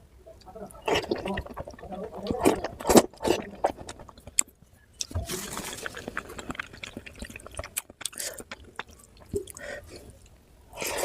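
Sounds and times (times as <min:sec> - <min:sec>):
wet mouth eating sounds: 0:00.7 - 0:11.0.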